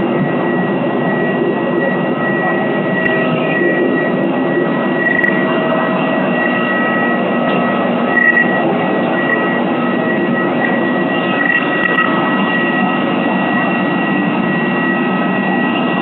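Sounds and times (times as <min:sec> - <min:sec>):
jet turbine running: 0:00.0 - 0:16.0.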